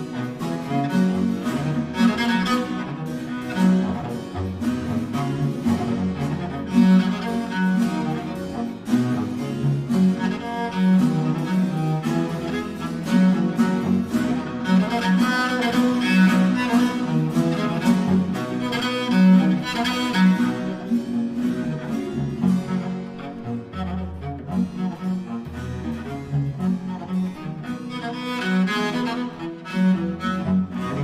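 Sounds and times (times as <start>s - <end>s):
solo cello with strings: 0.0s - 31.0s.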